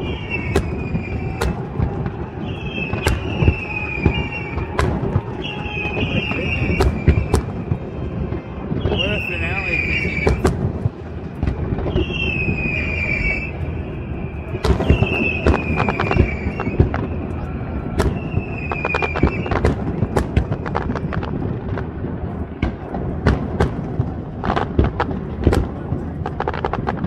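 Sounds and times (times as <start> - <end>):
firework whistles: 0.0 - 21.8
fireworks bangs and crackles: 0.0 - 27.0.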